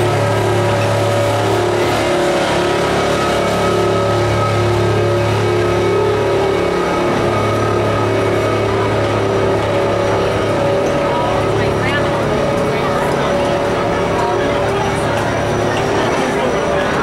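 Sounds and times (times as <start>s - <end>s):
diesel engine humming: 0.0s - 17.0s
train cars rolling: 0.0s - 17.0s.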